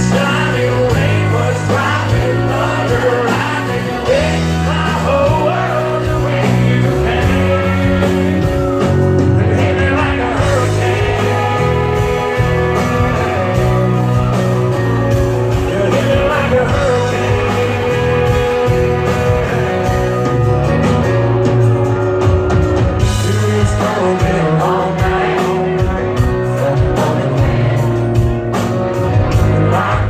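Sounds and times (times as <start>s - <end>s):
man singing lead vocal: 0.0s - 20.5s, 23.0s - 30.0s
country band playing: 0.0s - 30.0s.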